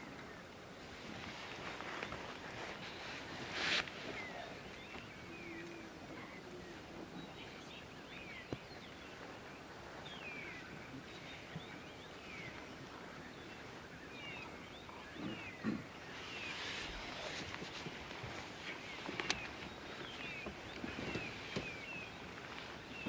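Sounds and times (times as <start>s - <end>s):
faint outdoor background: 0.0s - 23.0s
small birds chirping: 0.0s - 23.0s.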